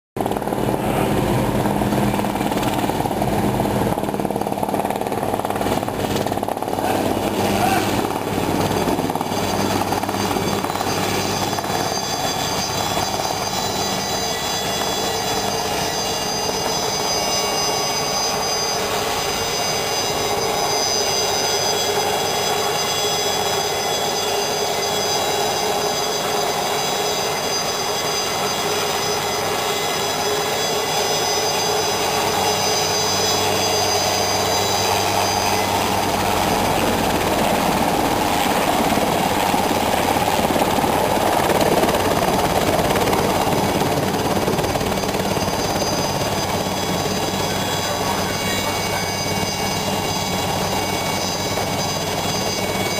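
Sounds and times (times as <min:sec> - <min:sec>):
helicopter rotor noise: 0:00.2 - 0:52.9
helicopter turbine whine: 0:00.2 - 0:52.9.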